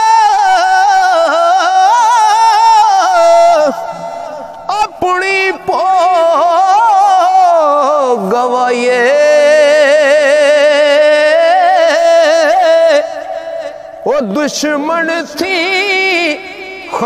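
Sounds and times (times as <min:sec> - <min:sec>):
man singing a long wavering note: 0:00.0 - 0:17.0.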